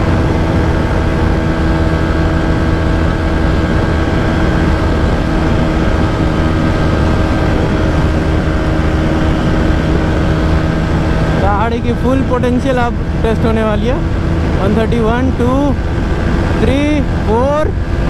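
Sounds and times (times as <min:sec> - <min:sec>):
heavy wind noise: 0:00.0 - 0:18.0
motorcycle engine at high revs: 0:00.0 - 0:18.0.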